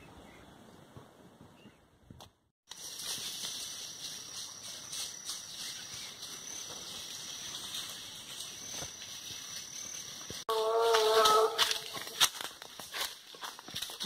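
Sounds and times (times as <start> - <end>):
insects chirring: 2.7 - 14.0.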